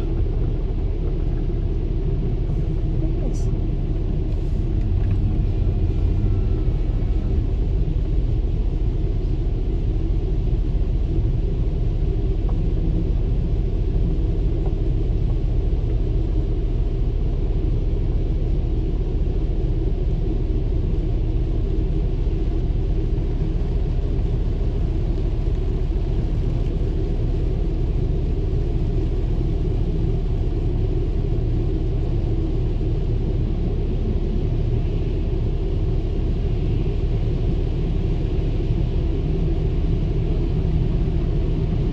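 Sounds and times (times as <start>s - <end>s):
car wash low rumble: 0.0s - 41.9s.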